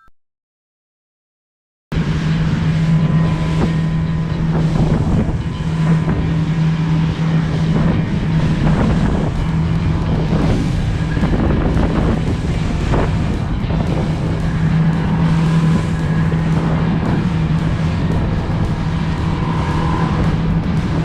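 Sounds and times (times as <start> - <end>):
boat engine running: 1.9 - 21.0
wind buffeting microphone: 2.0 - 21.0.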